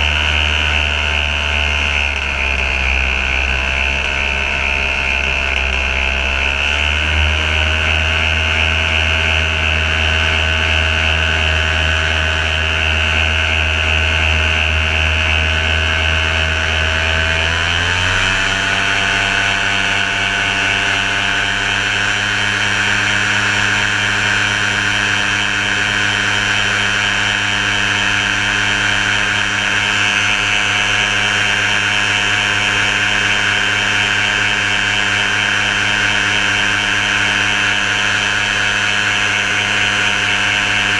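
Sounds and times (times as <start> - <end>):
paramotor engine running: 0.0 - 40.9.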